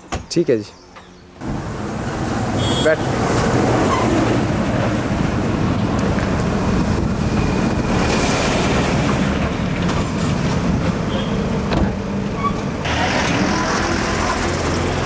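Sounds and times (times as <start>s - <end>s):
road noise: 0.0s - 15.0s
vehicle engine rumbling: 0.9s - 15.0s.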